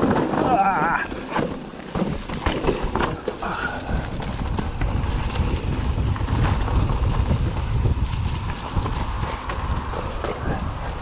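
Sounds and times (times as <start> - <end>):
bike knocks and rattles: 0.0 - 11.0
mountain bike rolling on rough trail: 0.0 - 11.0
wind buffeting microphone: 2.1 - 11.0.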